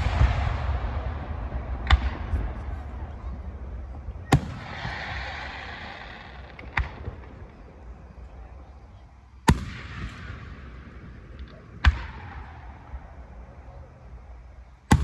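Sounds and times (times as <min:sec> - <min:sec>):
fireworks bangs: 0:00.0 - 0:15.0
fireworks hiss: 0:00.0 - 0:15.0.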